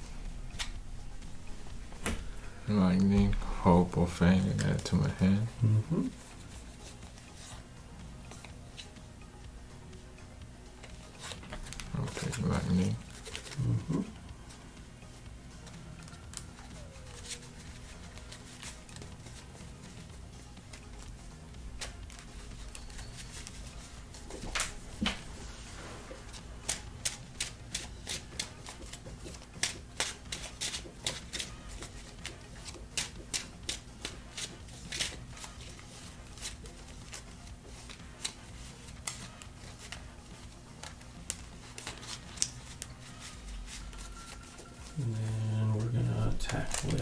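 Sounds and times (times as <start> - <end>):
trading cards being shuffled: 2.0 - 7.6, 10.8 - 14.6, 15.6 - 47.0.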